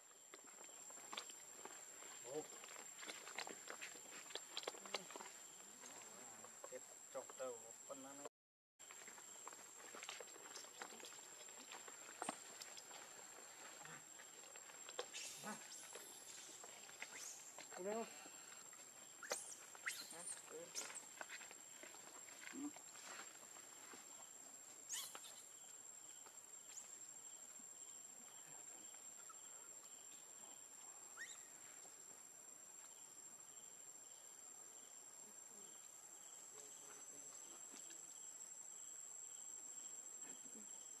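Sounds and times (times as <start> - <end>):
insect chorus: 0.0 - 41.0.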